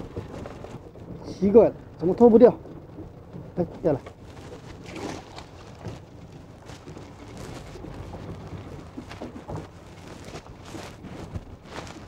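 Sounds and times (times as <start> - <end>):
choppy sea water: 0.0 - 12.0
wind rumbling on microphone: 0.0 - 12.0.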